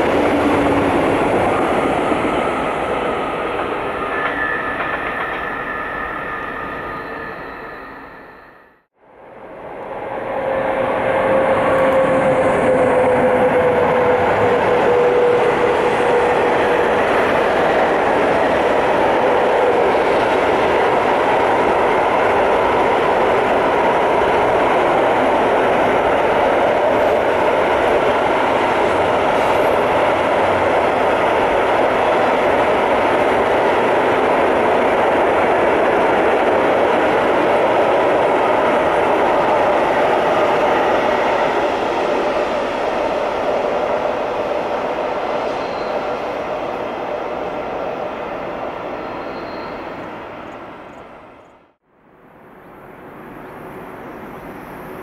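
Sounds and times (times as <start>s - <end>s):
freight train wheels rumbling on rails: 0.0s - 51.8s.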